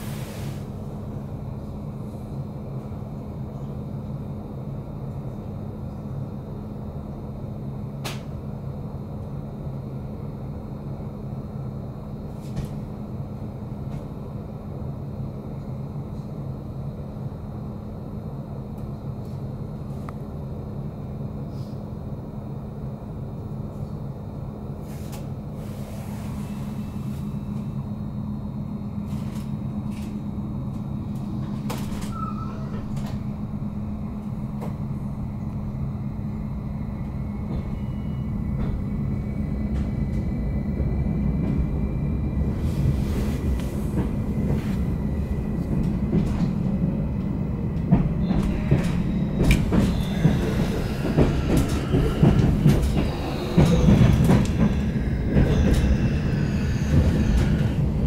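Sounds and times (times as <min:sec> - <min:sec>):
train equipment hum: 0:00.0 - 0:58.0.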